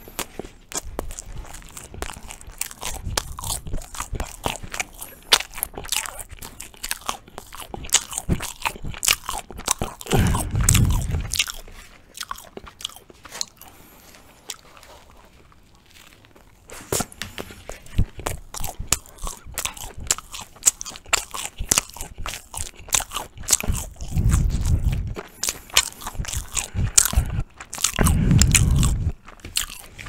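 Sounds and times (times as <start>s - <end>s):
man chewing flatbread: 0.0s - 30.0s.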